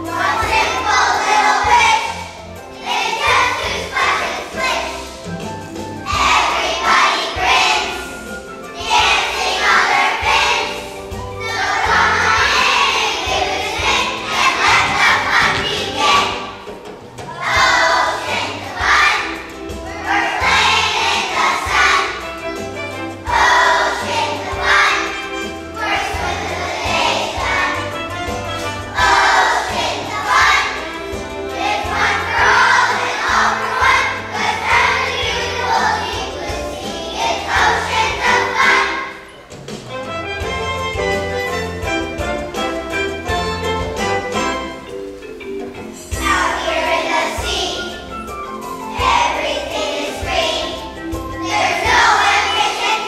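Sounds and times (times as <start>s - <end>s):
children's choir singing: 0.0s - 53.0s
instrumental backing music: 0.0s - 53.0s.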